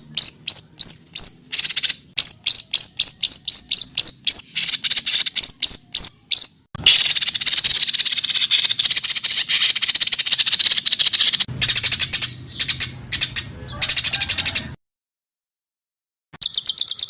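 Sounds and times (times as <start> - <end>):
short sharp bird chirps: 0.0 - 14.7, 16.4 - 17.0
harsh rasping bird trill: 0.0 - 14.8, 16.4 - 17.0.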